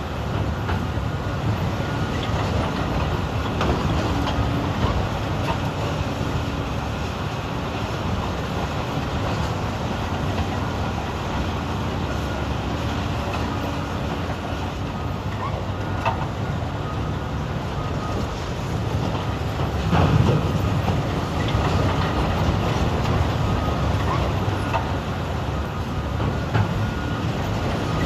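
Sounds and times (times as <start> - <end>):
heavy diesel engines running: 0.0 - 28.0.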